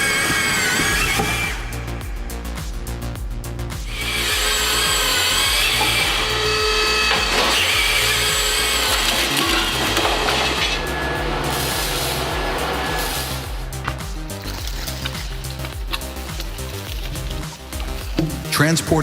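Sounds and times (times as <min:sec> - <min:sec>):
power tool cutting wood: 0:00.0 - 0:01.9, 0:03.8 - 0:18.6
background music with bass line: 0:00.0 - 0:19.0.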